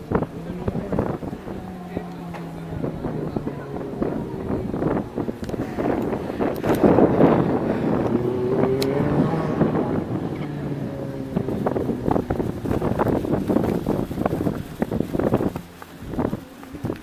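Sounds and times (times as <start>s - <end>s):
car engine running: 0.0s - 17.0s
wind buffeting microphone: 0.0s - 17.0s.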